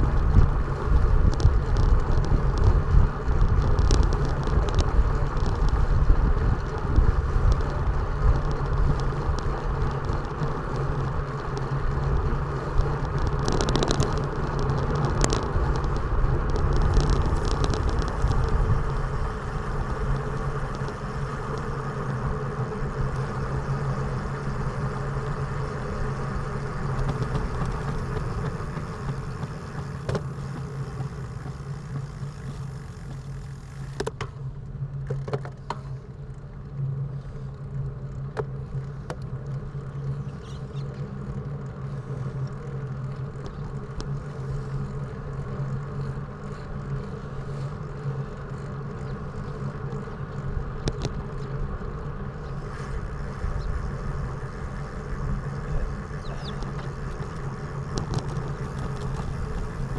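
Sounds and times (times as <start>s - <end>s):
road noise: 0.0s - 59.9s
vehicle engine humming: 0.0s - 59.9s.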